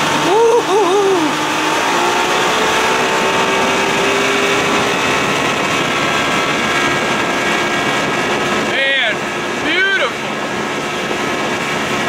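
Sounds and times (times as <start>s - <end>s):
outboard motor running: 0.0s - 12.0s
water rushing past boat: 0.0s - 12.0s.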